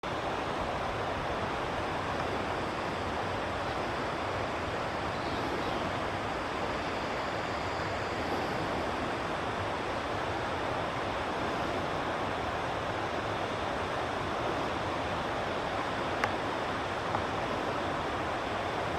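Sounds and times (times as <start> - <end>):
fast-flowing river rushing: 0.1 - 18.9.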